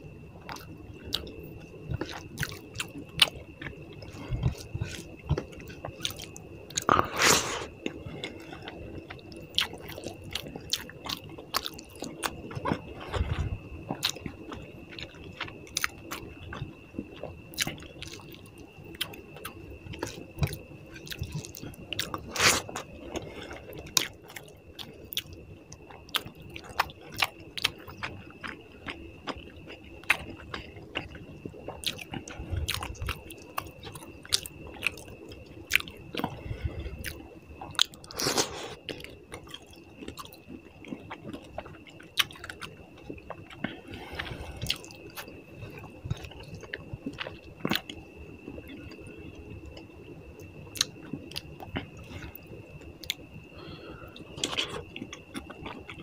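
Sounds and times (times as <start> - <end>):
person chewing with wet smacks: 0.4 - 1.3, 1.9 - 53.3, 54.1 - 56.0.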